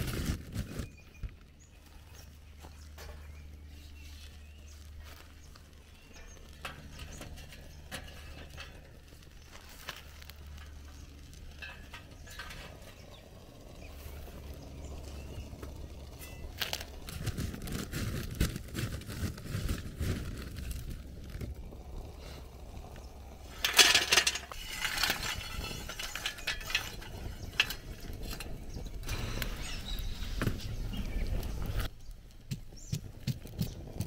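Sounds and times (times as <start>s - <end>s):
charcoal clattering into metal chimney: 4.5s - 31.9s.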